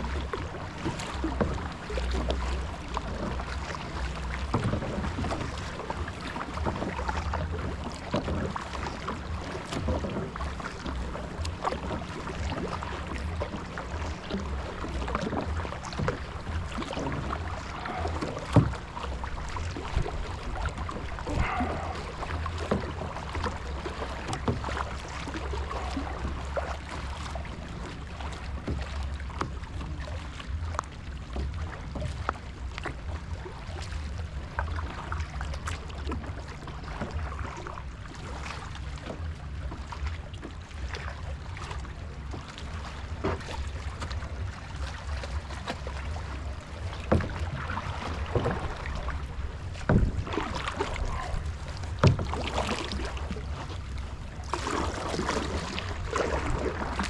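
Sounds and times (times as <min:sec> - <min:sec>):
paddle splashes: 0:00.0 - 0:57.0
steady low rumble: 0:00.0 - 0:57.0.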